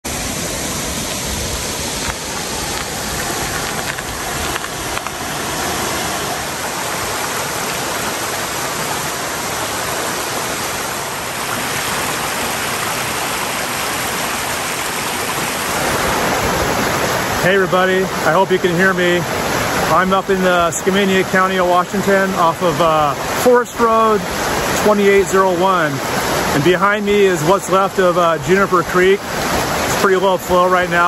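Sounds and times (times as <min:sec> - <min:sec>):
water running over rocks: 0:00.1 - 0:31.0.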